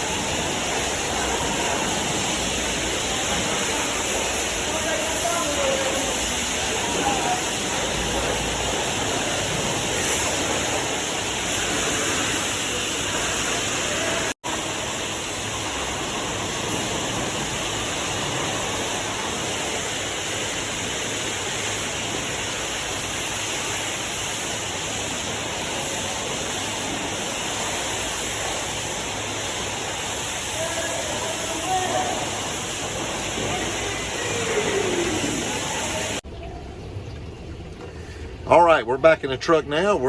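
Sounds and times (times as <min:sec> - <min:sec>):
high-pressure water spray hissing: 0:00.0 - 0:36.3.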